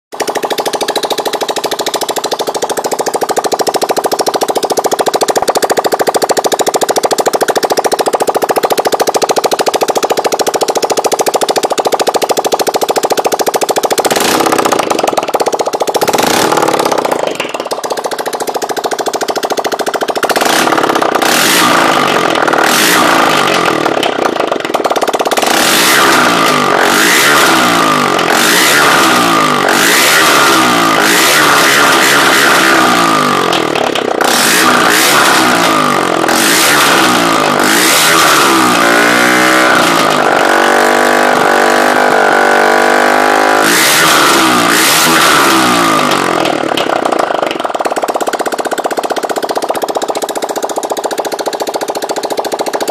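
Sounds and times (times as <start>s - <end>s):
motorcycle engine revving: 0.1s - 52.9s.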